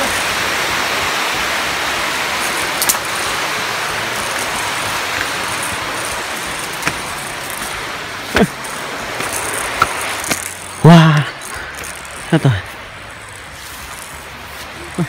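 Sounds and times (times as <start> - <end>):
highway traffic hiss: 0.0 - 15.0.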